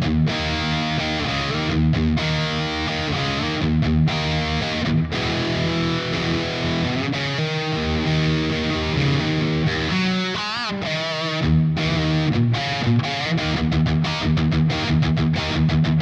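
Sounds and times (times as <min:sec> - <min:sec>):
distorted electric guitar riffs: 0:00.0 - 0:16.0.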